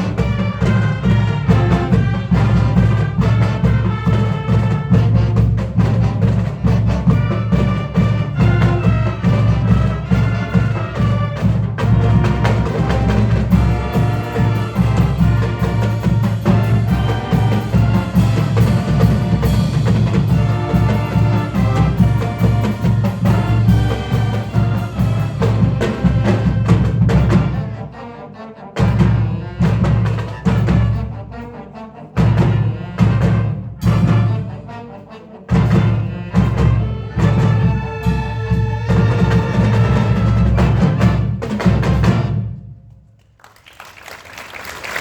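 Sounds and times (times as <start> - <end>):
marching band playing: 0.0 - 43.1.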